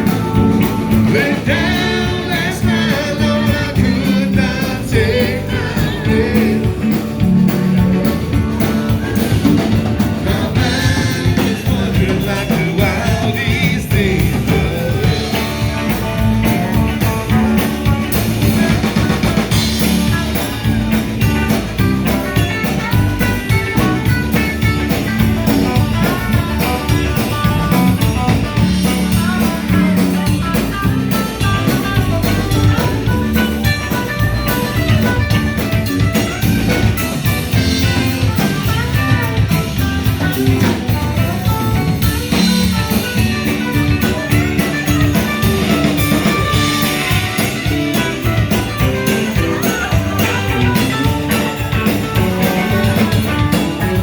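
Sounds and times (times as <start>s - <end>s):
instrumental rock band: 0.0s - 54.0s.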